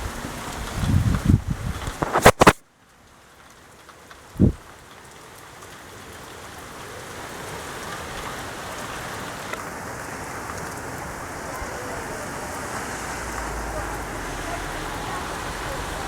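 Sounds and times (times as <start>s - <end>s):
heavy rain pouring: 0.0s - 16.0s
raindrops ticking on surfaces: 0.0s - 16.0s.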